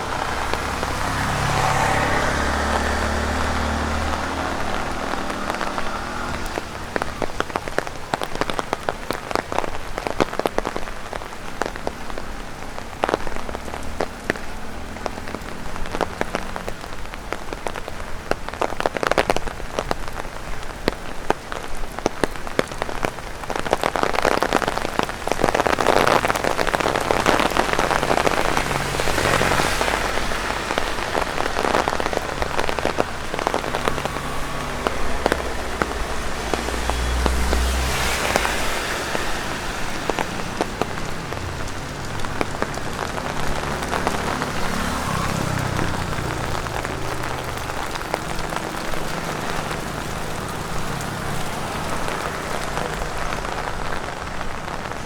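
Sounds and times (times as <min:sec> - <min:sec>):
rain tapping on umbrella: 0:00.0 - 0:55.0.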